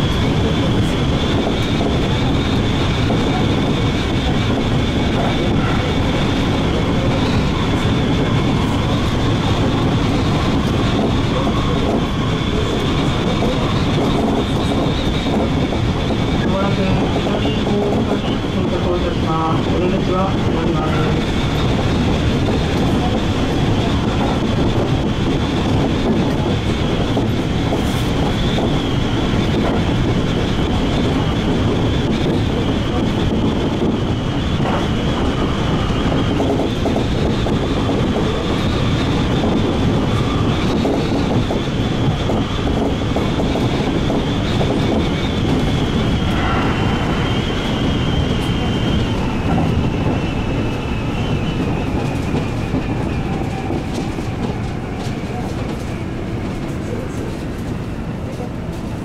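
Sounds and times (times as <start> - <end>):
high-pitched train whine: 0.0 - 59.0
train wheels rumbling on track: 0.0 - 59.0.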